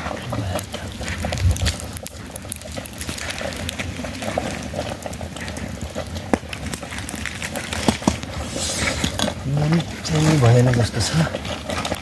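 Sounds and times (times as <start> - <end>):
pot boiling with seething hiss: 0.0 - 12.0
sharp pops and crackles: 0.0 - 12.0.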